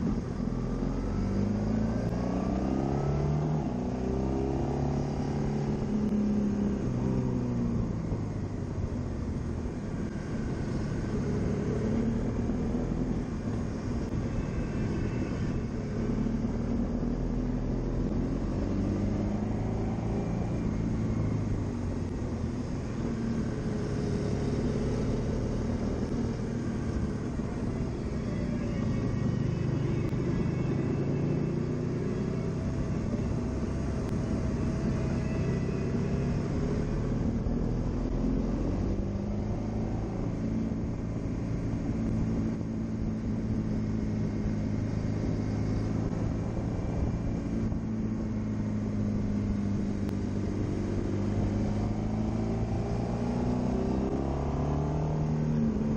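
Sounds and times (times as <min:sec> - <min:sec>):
motorcycle engine: 0:00.0 - 0:55.9.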